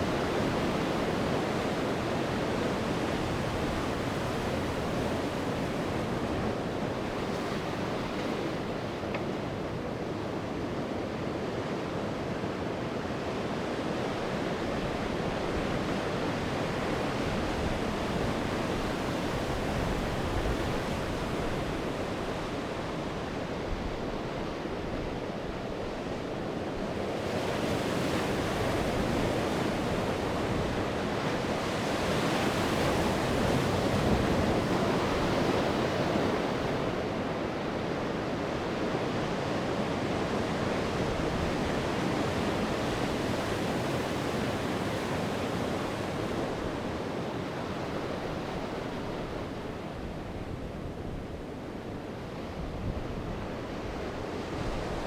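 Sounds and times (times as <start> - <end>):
sea waves breaking on shore: 0.0 - 55.0
wind: 0.0 - 55.0.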